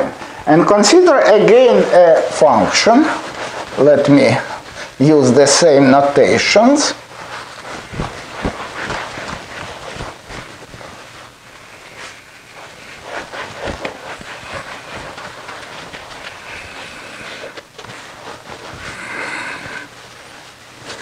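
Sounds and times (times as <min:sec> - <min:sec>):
eraser wiping whiteboard: 0:00.7 - 0:21.0.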